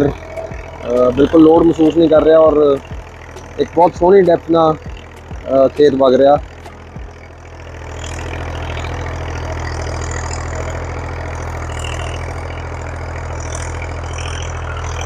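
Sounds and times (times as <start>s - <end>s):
diesel tractor engine droning: 0.0s - 15.0s.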